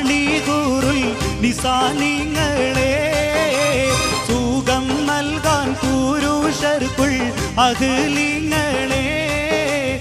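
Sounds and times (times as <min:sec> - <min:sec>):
band with keyboards and drums: 0:00.0 - 0:10.0
man singing: 0:00.0 - 0:10.0.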